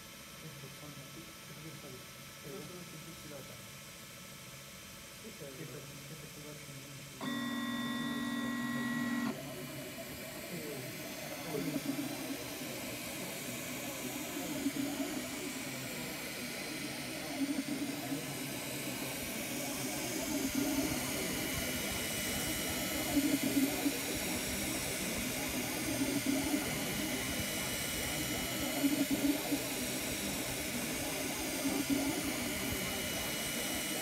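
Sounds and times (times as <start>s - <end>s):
fans whirring: 5.2s - 34.0s.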